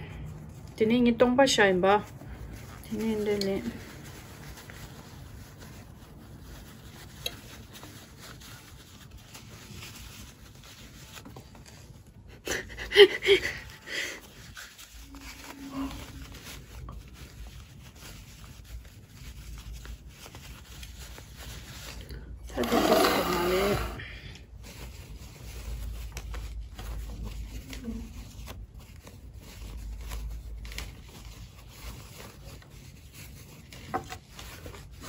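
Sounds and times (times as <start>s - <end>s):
cloth rustling: 0.0s - 35.0s.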